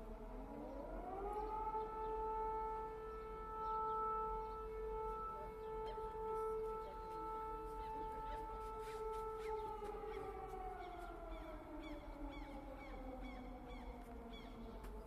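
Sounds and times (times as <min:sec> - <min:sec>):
civil defense siren wailing: 0:00.0 - 0:15.0.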